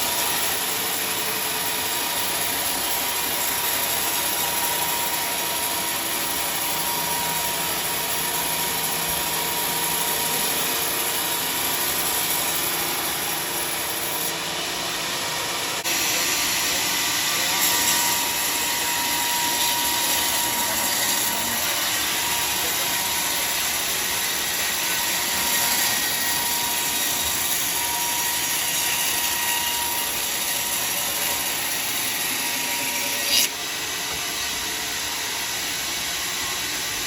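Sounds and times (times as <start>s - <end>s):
thin steady whine: 0.0s - 32.5s
sawmill saw cutting log: 0.0s - 37.0s.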